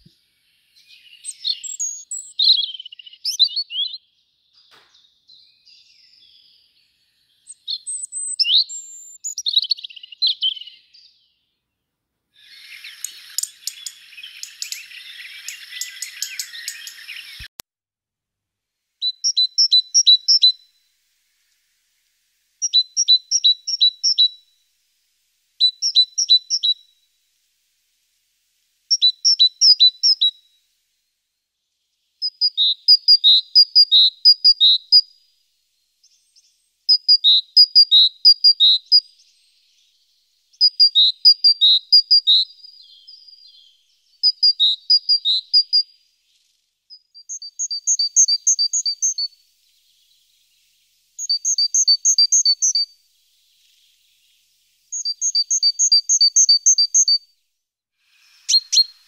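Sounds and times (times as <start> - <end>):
songbird singing: 0.0 - 17.6, 19.0 - 57.4, 58.1 - 59.0.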